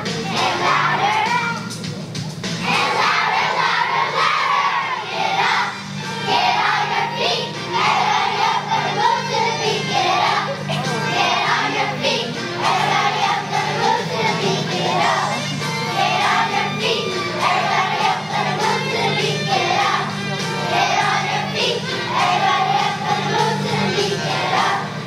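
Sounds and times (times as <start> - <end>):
children's choir singing: 0.0 - 1.6, 2.5 - 25.0
instrumental accompaniment: 0.0 - 25.0.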